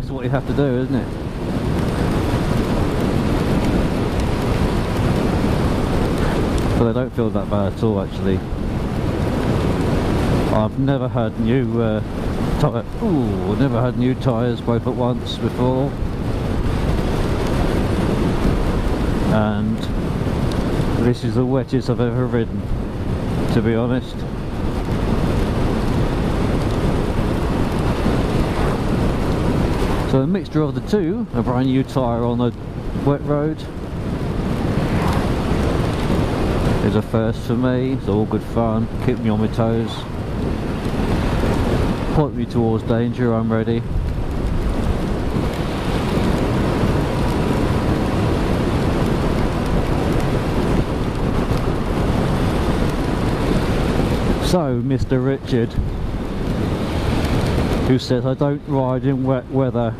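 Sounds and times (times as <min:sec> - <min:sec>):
heavy rain: 0:00.0 - 0:59.9
motorcycle road noise: 0:00.0 - 0:59.9
wind rush on microphone: 0:00.0 - 0:59.9.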